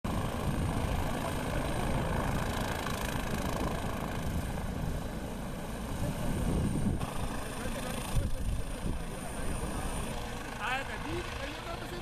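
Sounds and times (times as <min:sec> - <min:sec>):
helicopter hovering: 0:00.1 - 0:12.0.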